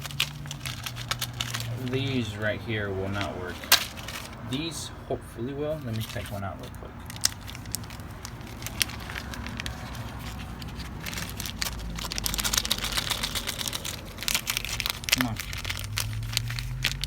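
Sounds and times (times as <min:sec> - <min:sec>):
plastic bag crinkling: 0:00.0 - 0:05.0, 0:05.6 - 0:17.0
bolts clicking: 0:00.0 - 0:17.0.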